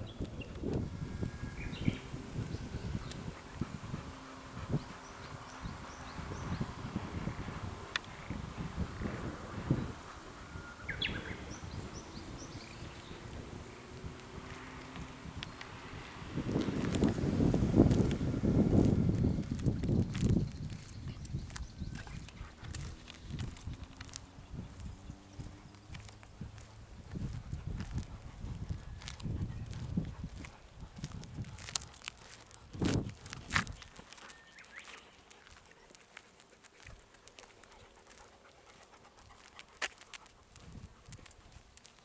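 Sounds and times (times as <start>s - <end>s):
dog panting: 0.4s - 20.0s, 20.8s - 24.2s, 26.0s - 42.0s.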